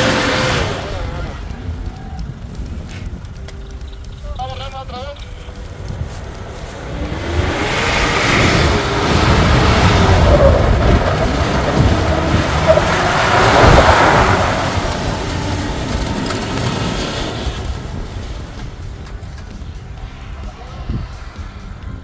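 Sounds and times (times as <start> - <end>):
pickup truck engine rumble: 0.0 - 22.0
tyre noise on loose ground: 0.0 - 22.0.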